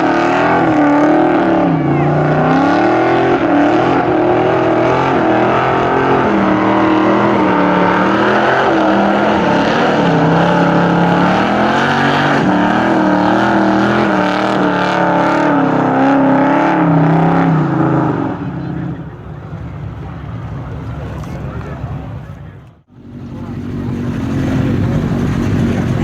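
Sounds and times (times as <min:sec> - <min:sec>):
car engine revving loudly: 0:00.0 - 0:19.1, 0:22.9 - 0:26.0.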